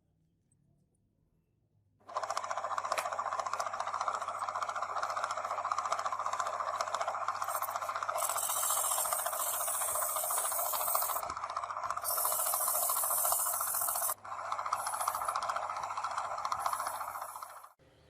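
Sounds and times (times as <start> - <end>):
small motor rattling: 2.1 - 17.8.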